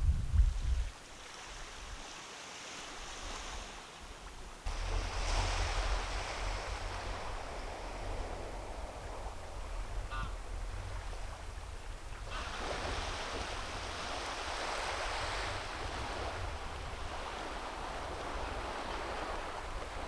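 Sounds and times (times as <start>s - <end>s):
wind rumble on microphone: 0.0s - 2.1s, 3.2s - 20.0s
sea waves washing onto shore: 1.0s - 20.0s.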